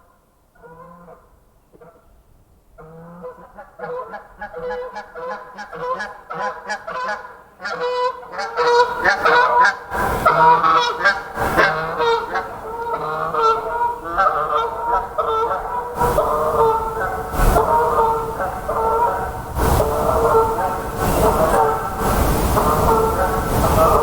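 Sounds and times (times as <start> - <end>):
geese honking: 2.9 - 24.0.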